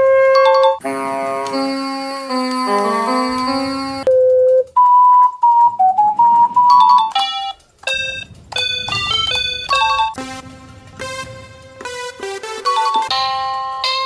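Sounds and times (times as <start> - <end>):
piping melody of pure tones: 0.0 - 4.1, 4.9 - 14.0.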